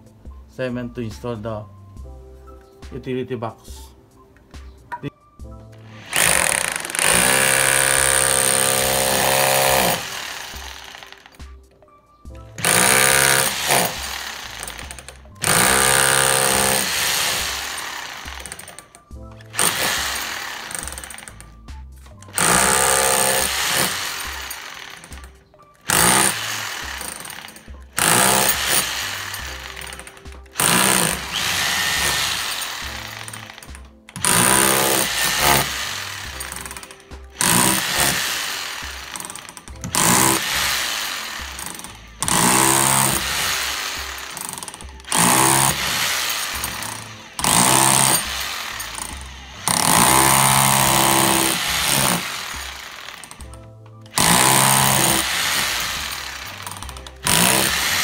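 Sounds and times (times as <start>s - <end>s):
background music: 0.0s - 58.0s
hammer drill boring into cement: 5.8s - 11.6s, 12.6s - 58.0s.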